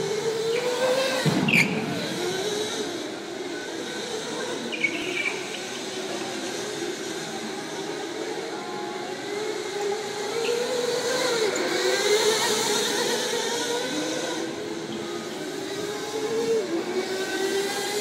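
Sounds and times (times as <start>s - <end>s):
go-kart motors whining: 0.0s - 18.0s.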